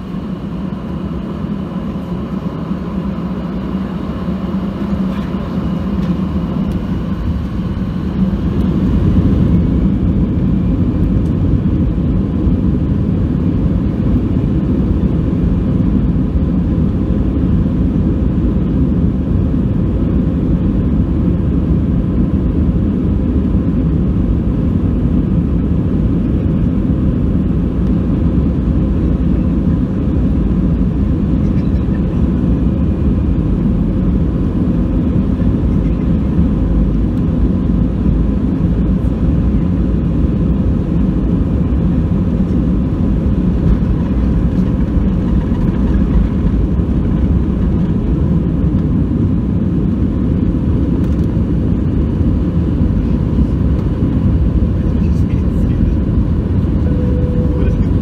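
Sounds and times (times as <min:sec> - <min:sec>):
jet engines at takeoff thrust: 0:00.0 - 0:58.0
wheels rumbling on runway: 0:00.0 - 0:58.0.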